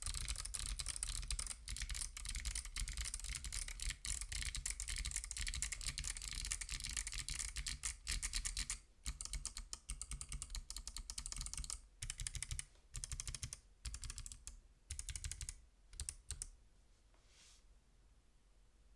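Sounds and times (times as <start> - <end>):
clicky keyboard typing: 0.0 - 16.5.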